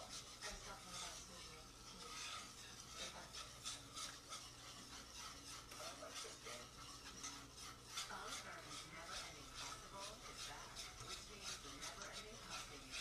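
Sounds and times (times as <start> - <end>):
whisk scraping a pot: 0.0 - 13.0.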